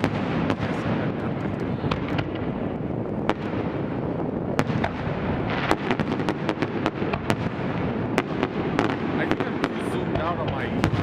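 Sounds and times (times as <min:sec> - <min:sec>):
rumble of firework bursts: 0:00.0 - 0:11.0
sharp firework cracks: 0:00.0 - 0:11.0.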